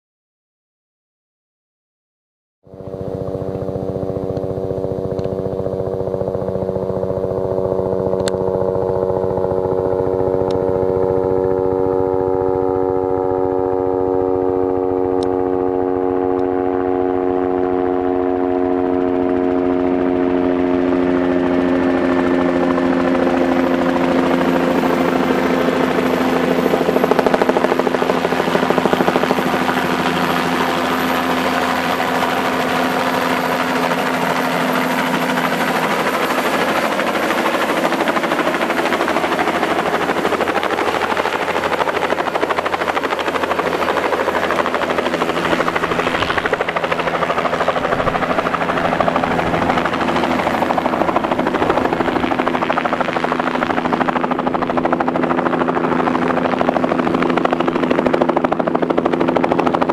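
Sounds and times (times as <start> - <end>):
helicopter rotor and turbine drone: 2.6 - 59.9
high turbine whine: 2.7 - 59.9.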